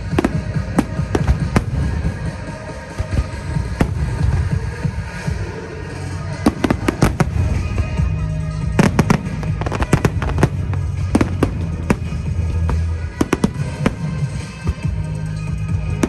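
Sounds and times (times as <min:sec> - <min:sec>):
fireworks bangs and crackles: 0:00.0 - 0:16.0
music with low bass: 0:00.0 - 0:16.0.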